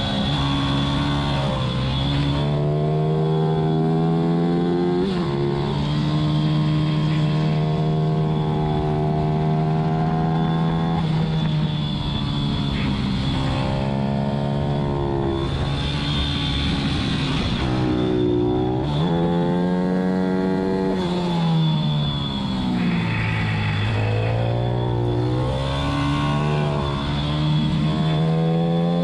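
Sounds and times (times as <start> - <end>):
motorbike engine revving high: 0.0 - 29.0.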